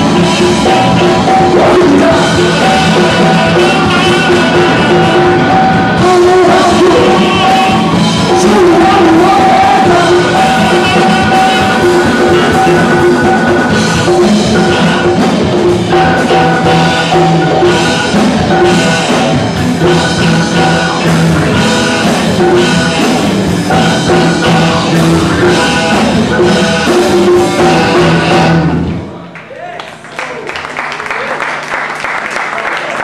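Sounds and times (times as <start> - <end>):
saxophone: 0.0 - 29.0
drum kit: 0.0 - 29.2
electric guitars: 0.0 - 29.4.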